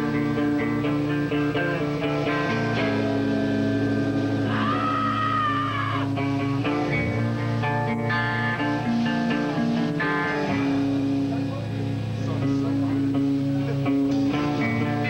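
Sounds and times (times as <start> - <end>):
guitar ringing chords: 0.0 - 15.0
live band playing: 0.0 - 15.0.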